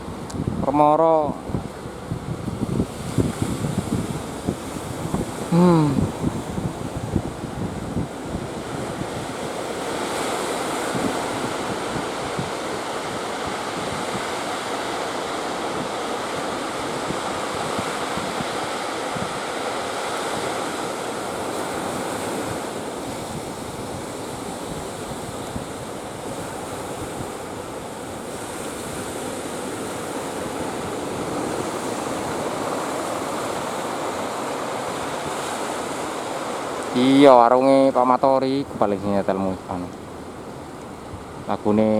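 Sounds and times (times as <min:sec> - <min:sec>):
ocean waves breaking: 0:00.0 - 0:41.9
wind blowing on microphone: 0:00.0 - 0:41.9.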